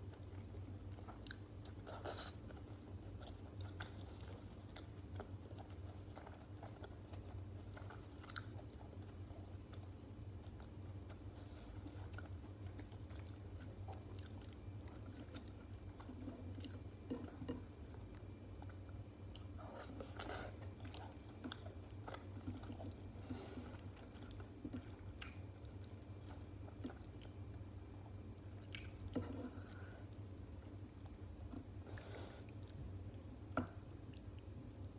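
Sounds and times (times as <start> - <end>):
wet chewing: 0.1 - 34.9.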